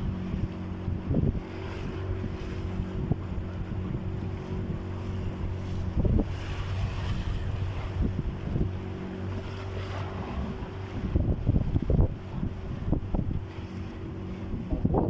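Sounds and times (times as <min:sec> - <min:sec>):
boat motor humming: 0:00.0 - 0:15.0
wind buffeting microphone: 0:00.0 - 0:15.0
water knocking against hull: 0:00.1 - 0:15.0.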